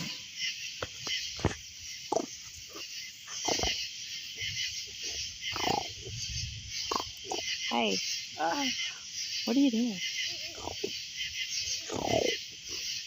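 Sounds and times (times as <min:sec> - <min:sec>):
frog-like animal calls: 0:00.0 - 0:13.0
night insects chorus: 0:00.0 - 0:13.0.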